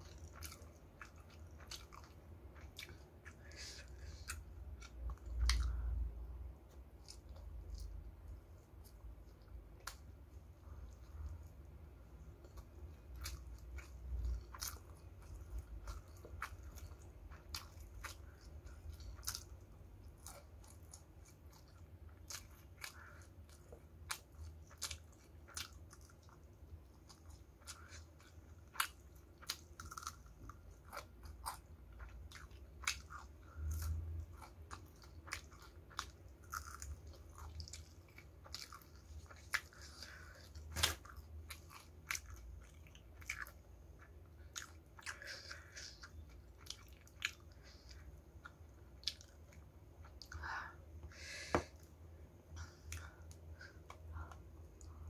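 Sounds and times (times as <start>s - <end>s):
person chewing crispy food: 0.0s - 50.7s.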